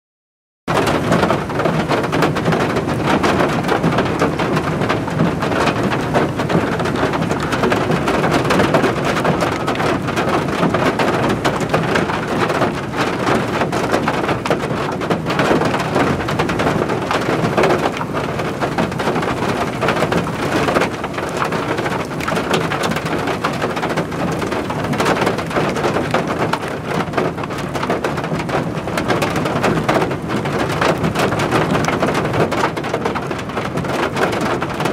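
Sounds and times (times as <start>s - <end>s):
heavy rain pattering: 0.7s - 34.9s.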